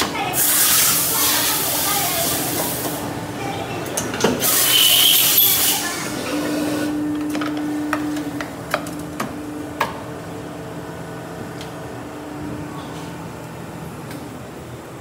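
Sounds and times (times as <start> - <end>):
hydraulic hum: 0.0 - 14.9.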